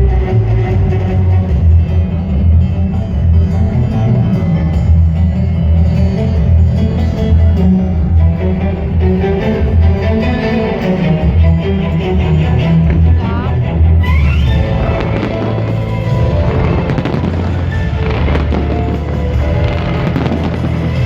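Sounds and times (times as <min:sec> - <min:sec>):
loud instrumental music with bass: 0:00.0 - 0:21.0.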